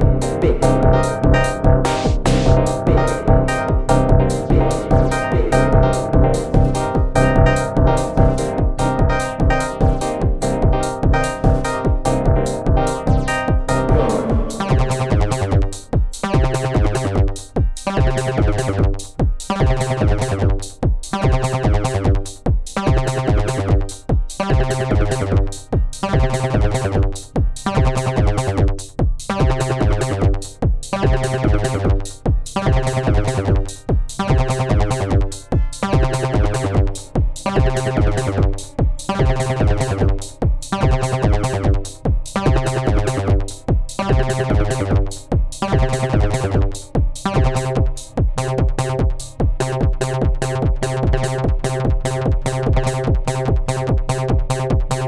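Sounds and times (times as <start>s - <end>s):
repeating synth chords: 0.0s - 17.3s, 19.6s - 20.5s, 22.9s - 23.8s, 24.4s - 27.0s, 31.0s - 55.0s
held synth bass line: 0.0s - 17.4s, 18.0s - 19.0s, 19.6s - 20.6s, 21.3s - 22.2s, 22.9s - 23.9s, 24.5s - 25.6s, 26.2s - 27.1s, 27.8s - 28.8s, 29.4s - 30.4s, 31.0s - 55.0s
fast drum machine beat: 0.0s - 55.0s.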